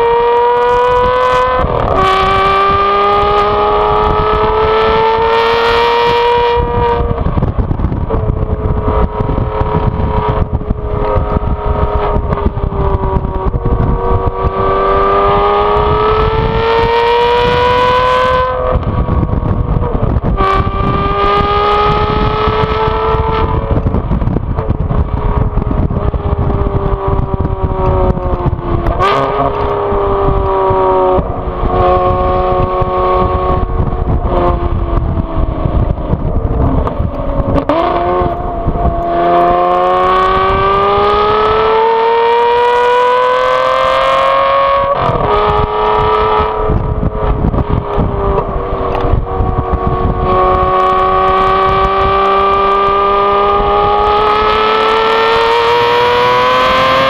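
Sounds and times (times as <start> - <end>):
car engine revving hard: 0.0 - 57.0
exhaust cracks: 6.5 - 16.5, 17.4 - 41.8, 42.8 - 56.4.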